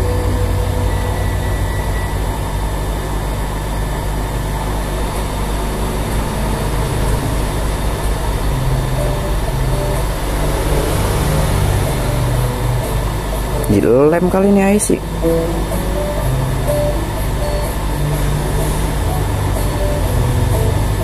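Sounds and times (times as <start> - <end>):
hot air blower rushing: 0.0 - 21.0.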